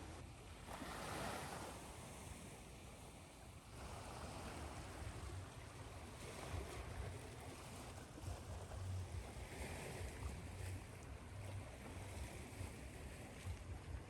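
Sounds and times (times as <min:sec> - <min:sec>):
ocean waves washing ashore: 0:00.0 - 0:14.0.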